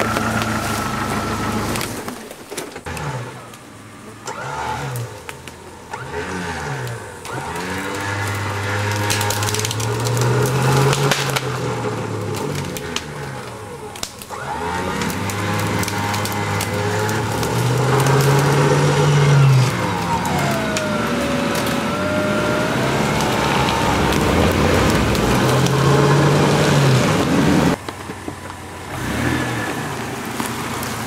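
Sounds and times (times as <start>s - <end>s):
dry branches cracking: 0.0s - 3.6s, 4.2s - 31.0s
engine revving: 0.0s - 27.8s, 28.8s - 31.0s.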